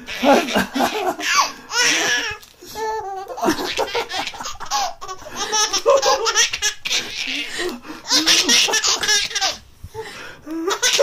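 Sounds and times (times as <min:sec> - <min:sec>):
baby laughing: 0:00.0 - 0:09.6, 0:10.6 - 0:11.0.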